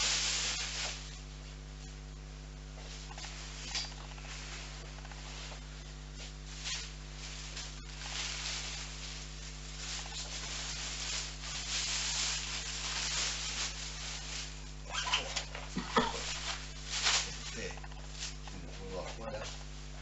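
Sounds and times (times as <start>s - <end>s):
plastic sack rustling: 0.0s - 1.9s, 2.6s - 20.0s
low electrical hum: 0.0s - 20.0s.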